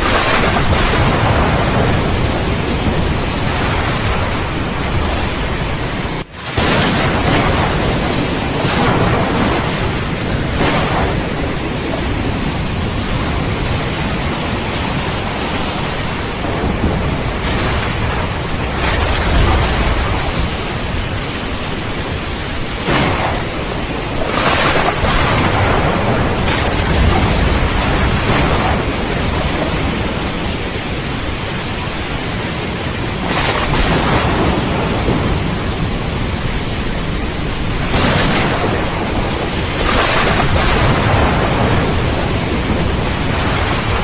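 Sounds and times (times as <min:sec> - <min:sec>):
steady rain: 0:00.0 - 0:44.0
thunder rumbling and clapping: 0:00.0 - 0:44.0.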